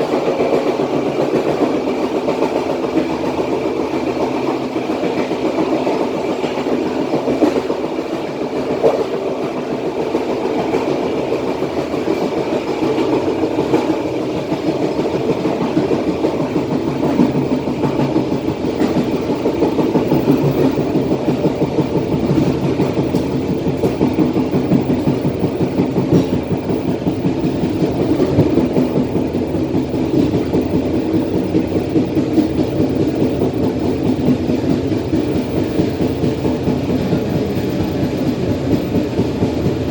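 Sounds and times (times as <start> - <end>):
train wheel clicks and clatter: 0.0 - 39.9
train wheels rumbling on rail: 0.0 - 39.9.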